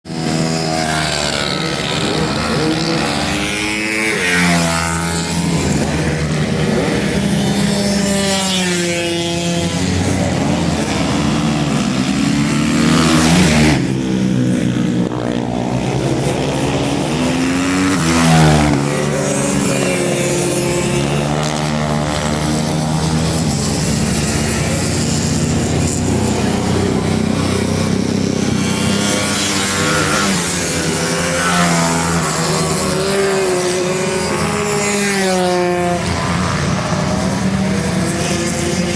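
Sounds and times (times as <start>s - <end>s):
racing motorcycles revving: 0.0s - 38.9s.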